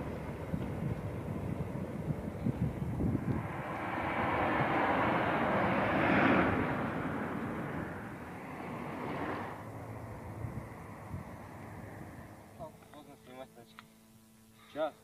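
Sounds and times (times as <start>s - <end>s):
vehicle passing: 0.0s - 13.1s.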